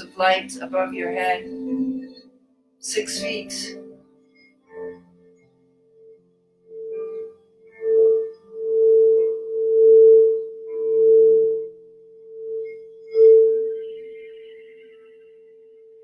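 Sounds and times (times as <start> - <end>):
singing bowl rubbed ringing: 0.0 - 16.0.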